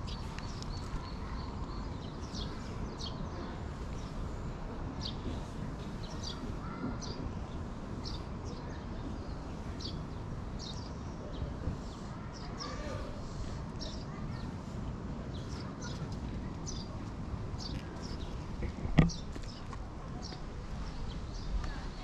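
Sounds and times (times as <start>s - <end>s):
low outdoor rumble: 0.0s - 22.0s
small birds chirping: 0.0s - 22.0s.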